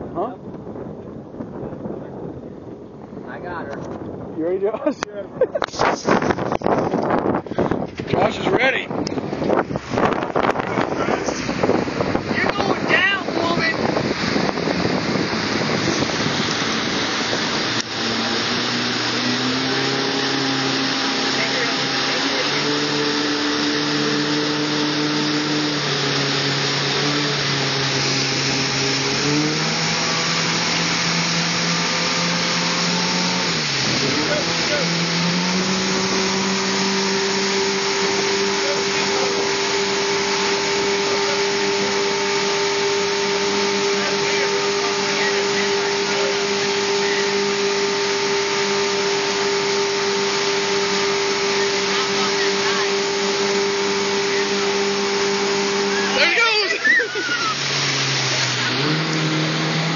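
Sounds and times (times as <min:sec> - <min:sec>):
wind noise on microphone: 0:00.0 - 0:56.2
low engine hum: 0:00.0 - 0:59.9
water rushing from motorboat: 0:00.0 - 0:59.9.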